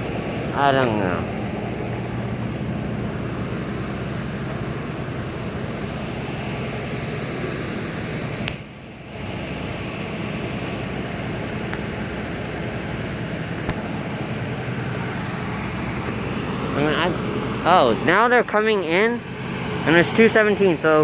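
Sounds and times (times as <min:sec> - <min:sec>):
vehicles idling rumble: 0:00.0 - 0:21.0.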